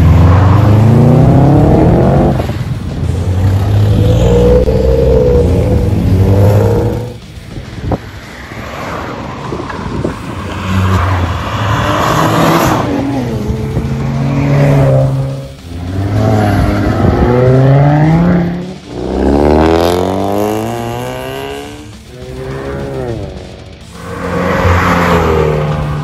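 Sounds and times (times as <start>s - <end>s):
cars accelerating hard past: 0.0s - 7.2s, 8.5s - 26.0s.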